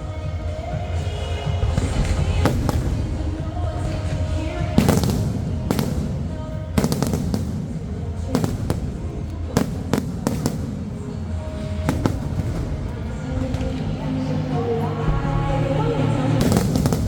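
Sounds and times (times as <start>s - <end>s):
fireworks bangs: 0.0s - 17.0s
music playing: 0.0s - 17.0s.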